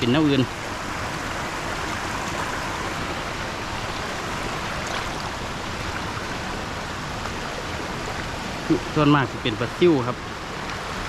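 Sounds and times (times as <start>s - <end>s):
rush of flowing water: 0.0s - 11.0s.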